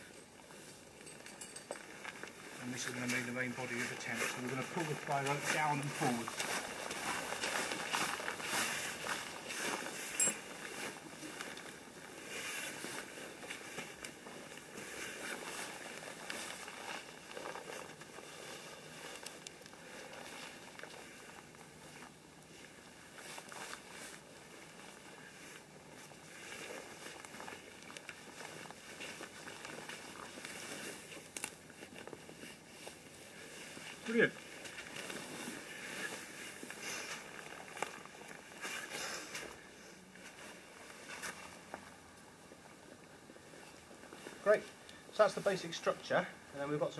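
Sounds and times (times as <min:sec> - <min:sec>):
tarp rustling and crinkling: 0:00.0 - 0:46.9.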